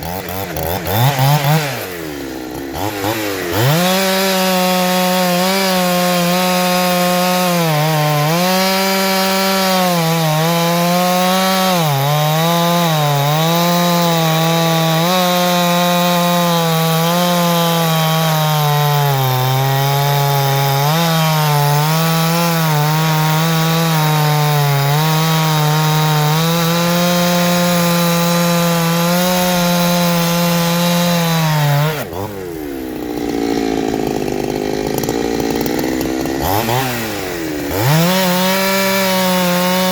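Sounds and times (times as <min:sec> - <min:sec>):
chainsaw running under load: 0:00.0 - 0:39.9.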